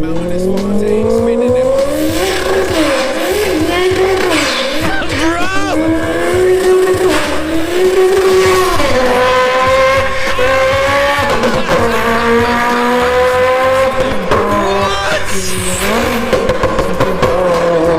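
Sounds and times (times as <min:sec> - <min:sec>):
beatboxed racing car engine: 0:00.0 - 0:17.9.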